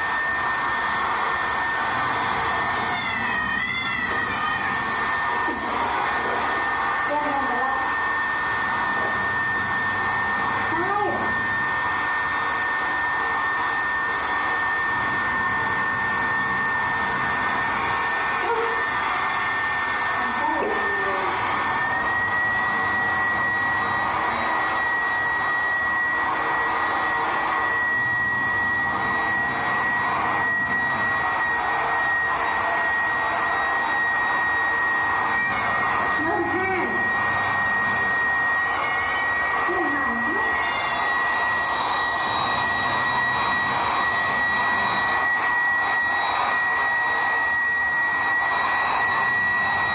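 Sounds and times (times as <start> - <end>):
hair dryer blowing: 0.0 - 49.9.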